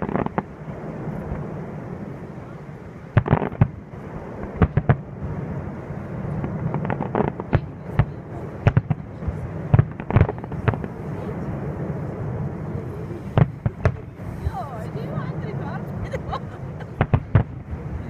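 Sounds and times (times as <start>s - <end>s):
fireworks bangs and cracks: 0.0s - 18.0s
steady background noise: 0.0s - 18.0s.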